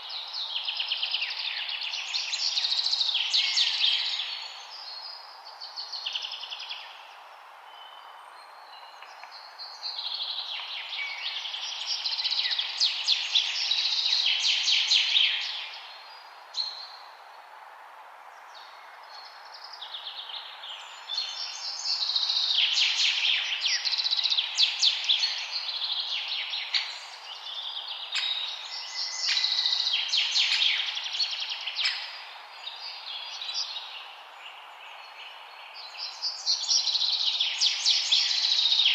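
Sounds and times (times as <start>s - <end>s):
songbirds chirping and trilling: 0.0s - 17.5s, 18.3s - 38.9s
outdoor ambience hiss: 0.0s - 38.9s.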